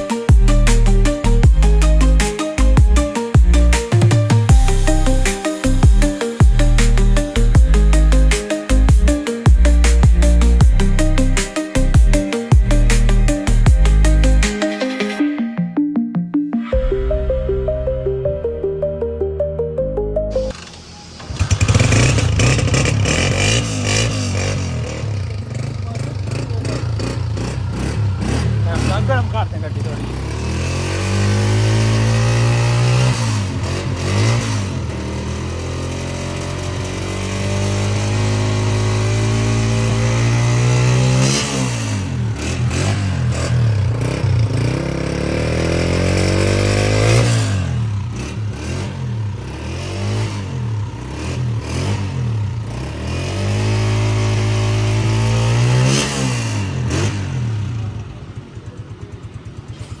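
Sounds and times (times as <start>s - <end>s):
motorcycle engine revving: 0.1s - 14.5s, 20.5s - 60.0s.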